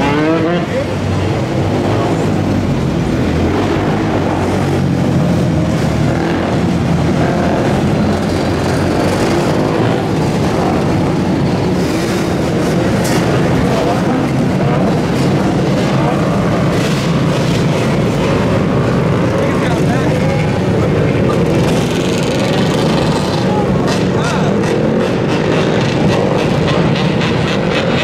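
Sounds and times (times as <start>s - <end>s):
loud vehicle engine noise: 0.0s - 28.0s.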